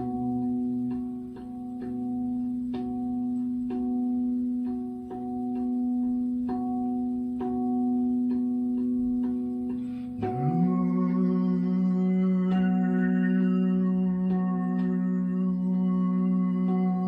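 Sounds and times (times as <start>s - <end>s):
singing bowl tone: 0.0s - 17.0s.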